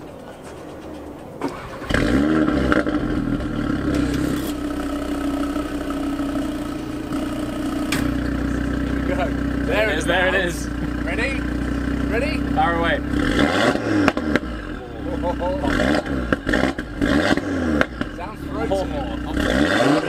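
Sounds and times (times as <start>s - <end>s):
car engine starting and idling: 0.0s - 20.0s.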